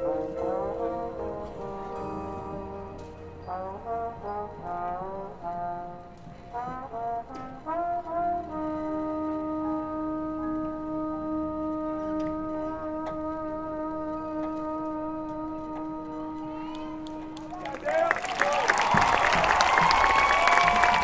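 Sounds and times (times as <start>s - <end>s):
marching band brass playing: 0.0s - 21.0s.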